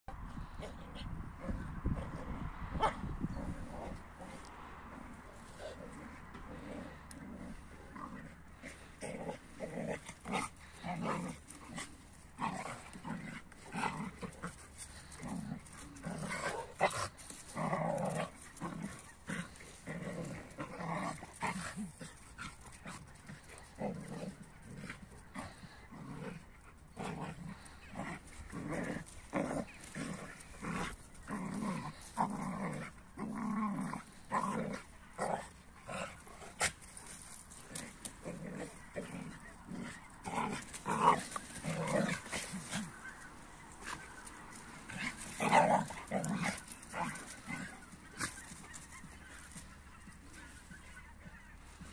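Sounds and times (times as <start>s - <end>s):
dogs play-fighting vocalizing: 0.2s - 51.9s.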